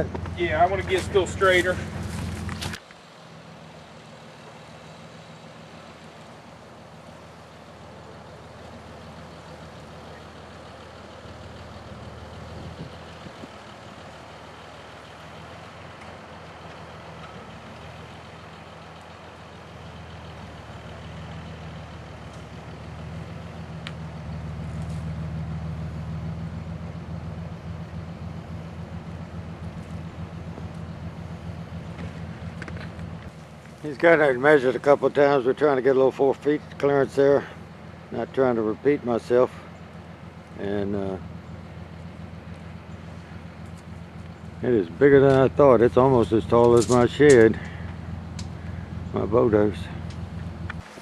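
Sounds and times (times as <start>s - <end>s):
truck engine running: 0.0s - 51.0s.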